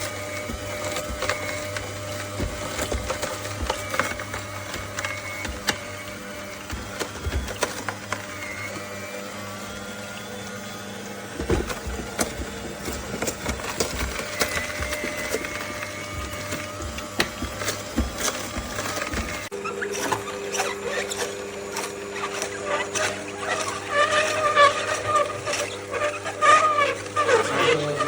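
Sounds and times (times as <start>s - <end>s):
juicer motor hum: 0.0s - 28.0s.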